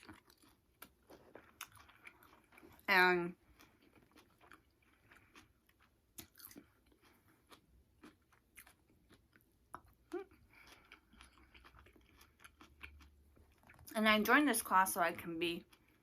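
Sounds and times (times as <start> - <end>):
faint chewing of food: 0.0 - 14.0, 15.6 - 16.0.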